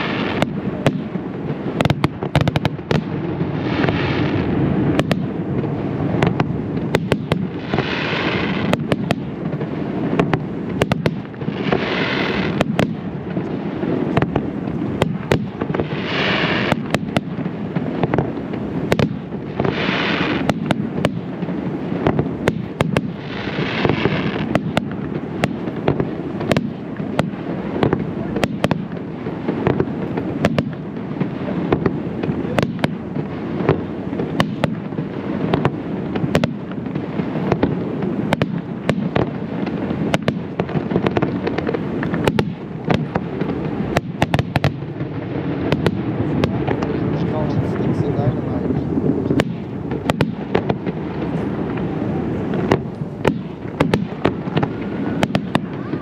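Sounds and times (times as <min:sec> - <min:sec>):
fireworks bangs: 0:00.0 - 0:56.0
fireworks rushing swell: 0:00.0 - 0:56.0.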